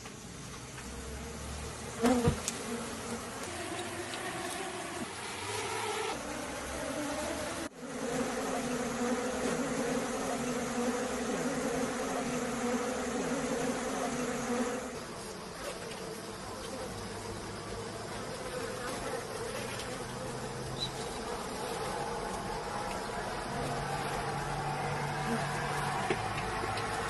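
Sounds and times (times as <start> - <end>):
honeybees buzzing: 0.6 - 27.0.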